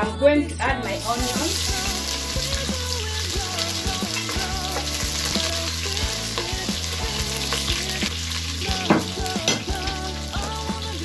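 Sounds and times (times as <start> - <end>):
background music: 0.0 - 11.0
onions sizzling in hot oil: 0.8 - 11.0.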